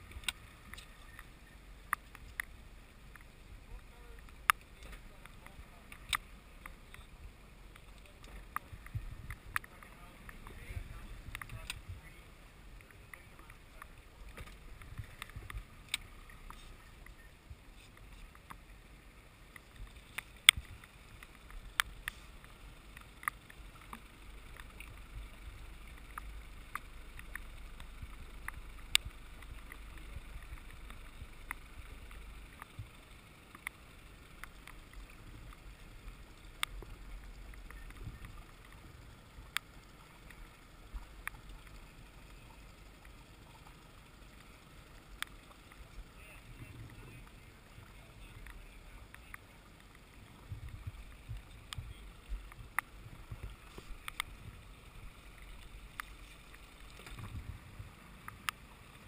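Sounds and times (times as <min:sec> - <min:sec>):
sharp ticks: 0:00.0 - 0:03.4, 0:04.2 - 0:12.1, 0:12.7 - 0:18.8, 0:19.4 - 0:57.4
outboard boat motor rumbling: 0:00.0 - 0:59.0.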